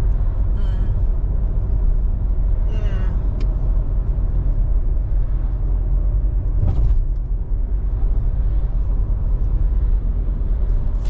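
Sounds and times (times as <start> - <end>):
car road rumble inside cabin: 0.0 - 11.0.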